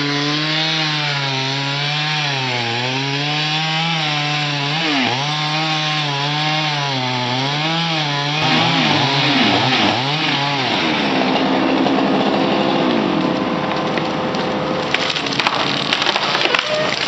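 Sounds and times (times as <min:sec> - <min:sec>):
chainsaw cutting wood: 0:00.0 - 0:14.2, 0:14.8 - 0:17.0.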